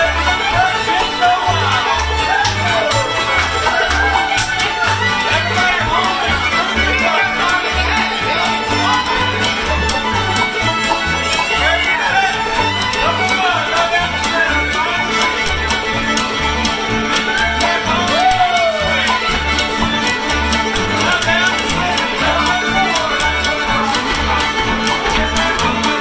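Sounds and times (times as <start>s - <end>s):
fiddle: 0.0s - 26.0s
string band playing dance tune: 0.0s - 26.0s.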